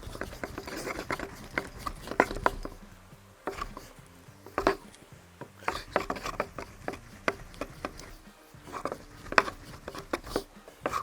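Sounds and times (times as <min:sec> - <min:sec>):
wooden board rubbing and knocking: 0:00.0 - 0:11.0.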